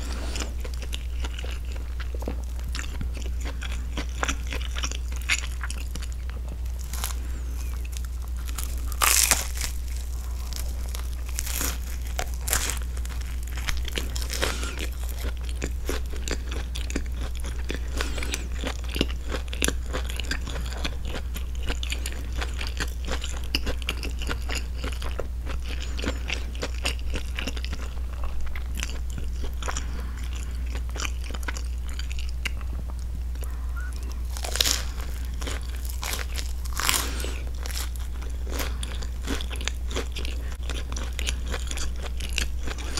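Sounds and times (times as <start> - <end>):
chewing toasted bread: 0.0 - 42.9
steady low hum: 0.0 - 42.9.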